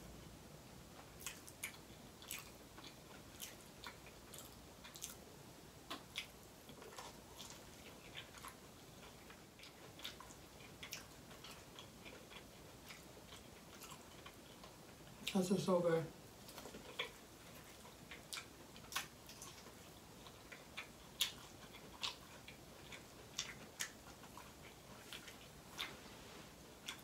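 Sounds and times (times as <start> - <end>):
chewing and crunching: 1.0 - 15.4, 16.3 - 27.0.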